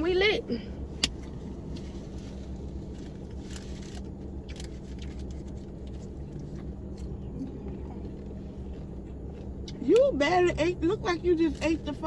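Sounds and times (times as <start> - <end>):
car cabin engine hum: 0.0 - 12.0.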